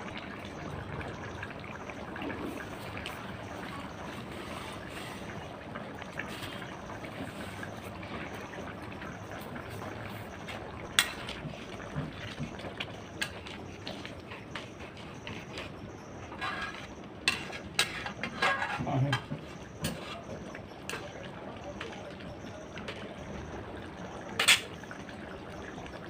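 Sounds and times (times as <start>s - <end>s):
liquid trickling and bubbling: 0.0s - 26.0s.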